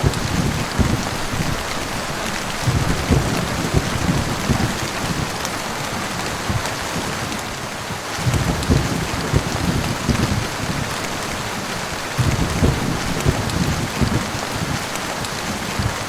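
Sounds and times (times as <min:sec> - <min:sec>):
heavy rain pattering: 0:00.0 - 0:16.0
thunder rumbles: 0:00.0 - 0:16.0.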